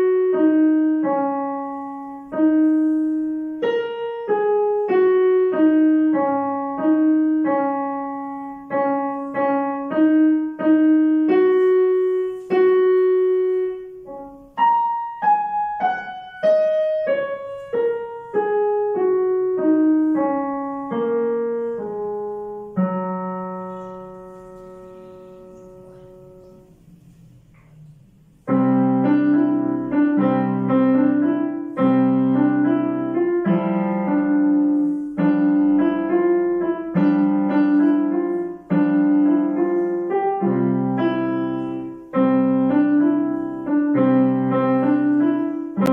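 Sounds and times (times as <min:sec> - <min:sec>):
digital piano playing: 0:00.0 - 0:45.9.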